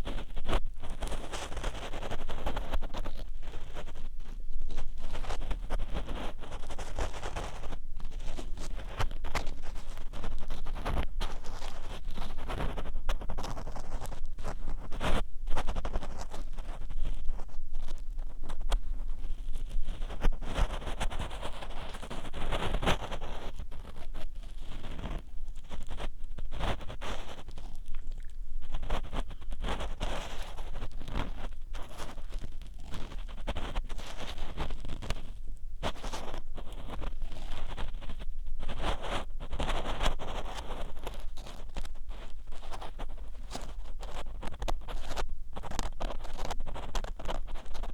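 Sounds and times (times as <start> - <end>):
ear pick scratching inside ear: 0.0 - 47.9.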